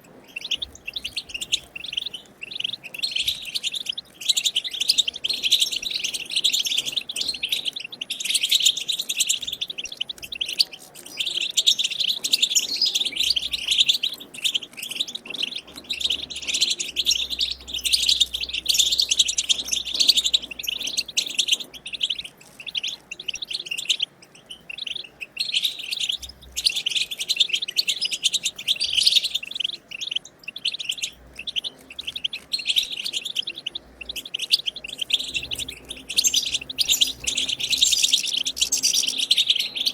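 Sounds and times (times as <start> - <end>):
finch singing twittering song: 0.0 - 39.9.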